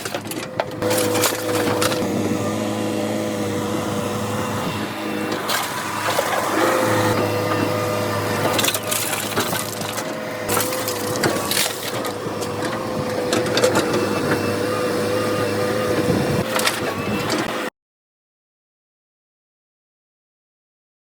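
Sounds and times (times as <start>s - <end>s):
heavy machine engine whining: 0.0s - 17.7s.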